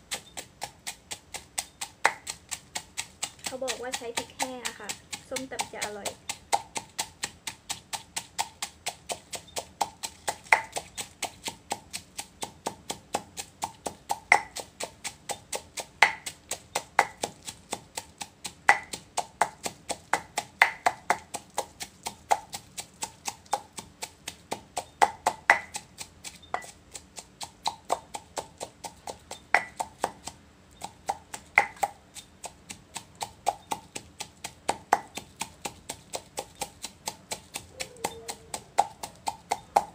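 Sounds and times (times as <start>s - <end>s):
wooden pestle pounding in mortar: 0.0s - 39.9s.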